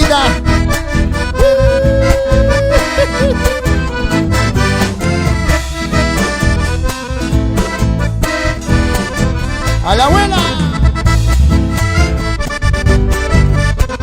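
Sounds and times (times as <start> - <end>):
accordion folk dance music: 0.0 - 14.0
bass: 0.0 - 14.0.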